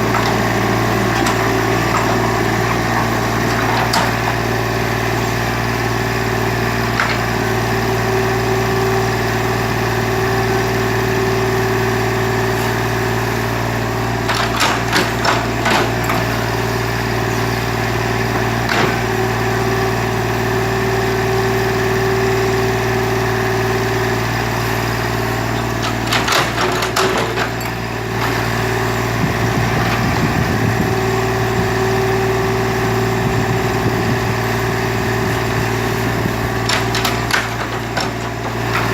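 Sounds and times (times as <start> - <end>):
excavator engine humming: 0.0 - 38.9.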